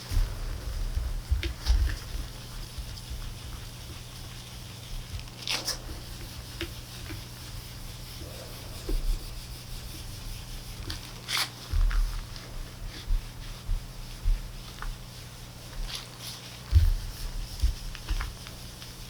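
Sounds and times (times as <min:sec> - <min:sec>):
rubbing and scraping a plate: 0:00.0 - 0:19.0
steady low hum: 0:00.0 - 0:19.0.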